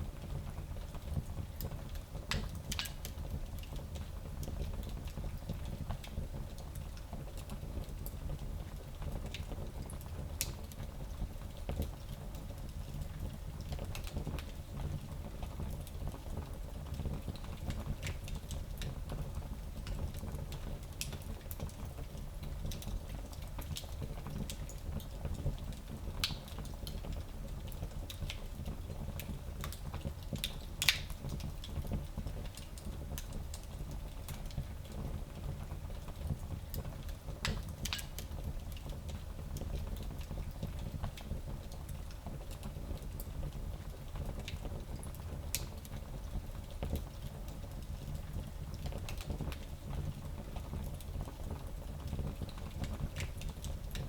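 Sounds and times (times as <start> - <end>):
wood fire crackling: 0.1 - 54.0.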